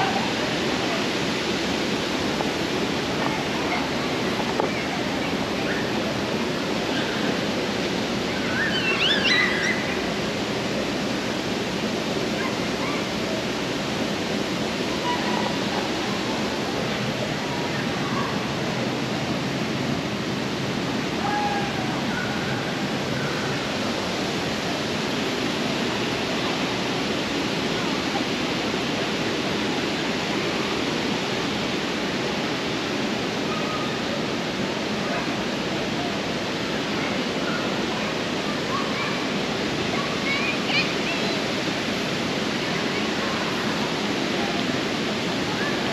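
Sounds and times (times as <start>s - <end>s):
fountain water splashing: 0.0s - 45.9s.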